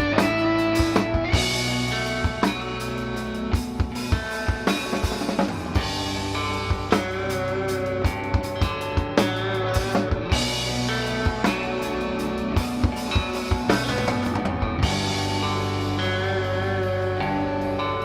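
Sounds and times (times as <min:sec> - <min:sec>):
drum kit beating: 0:00.0 - 0:18.0
rock band playing: 0:00.0 - 0:18.0.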